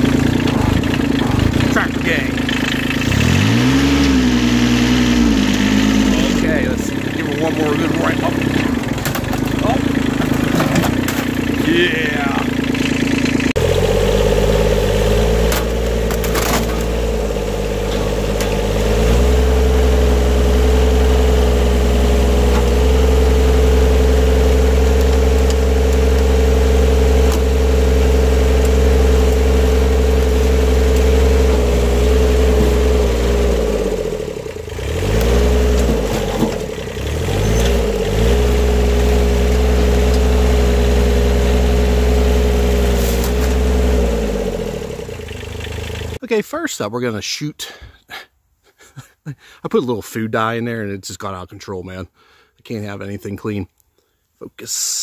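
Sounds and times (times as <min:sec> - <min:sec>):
tractor engine running hard: 0:00.0 - 0:46.2.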